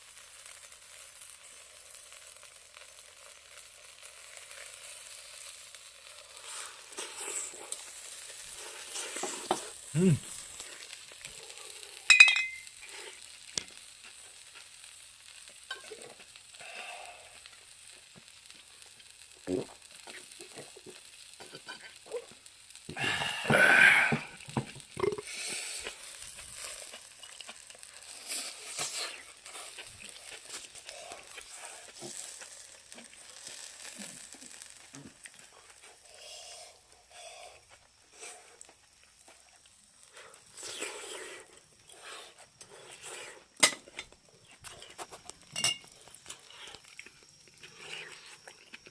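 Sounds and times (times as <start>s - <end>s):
meat sizzling on charcoal grill: 0.0s - 48.9s
small crackles: 0.0s - 48.9s.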